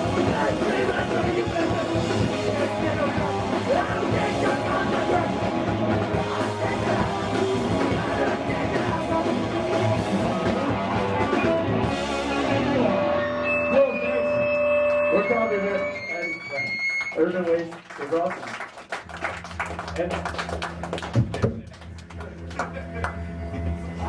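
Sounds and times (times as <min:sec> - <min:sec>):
punk band playing loud: 0:00.0 - 0:16.6, 0:19.2 - 0:24.0.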